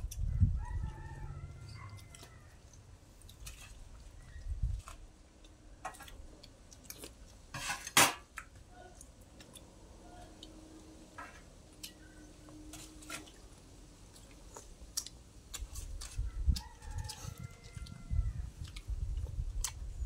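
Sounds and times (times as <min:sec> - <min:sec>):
people chewing and eating: 0:00.0 - 0:20.0.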